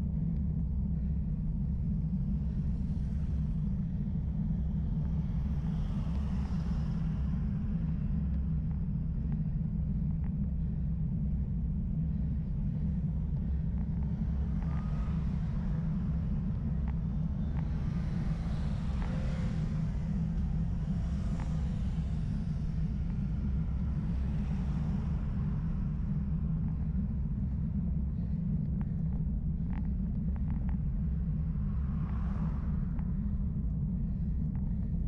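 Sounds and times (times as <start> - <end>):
road and wind rumble: 1.2 - 35.0.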